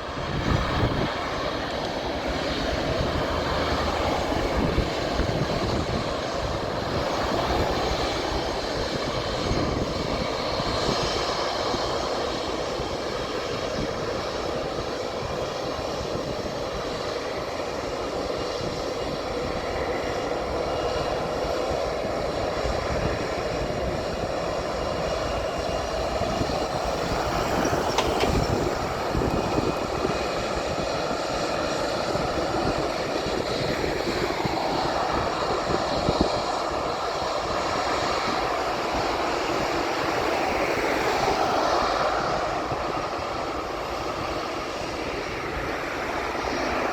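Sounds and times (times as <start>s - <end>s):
jet engines running: 0.0s - 46.9s.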